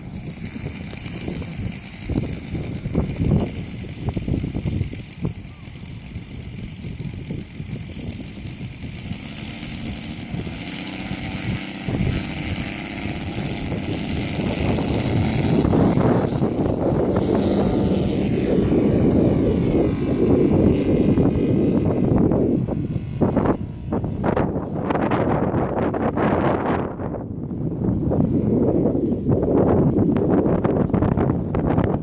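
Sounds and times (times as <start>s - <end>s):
model plane engine whine: 0.0s - 32.0s
wind rumble on microphone: 0.0s - 32.0s.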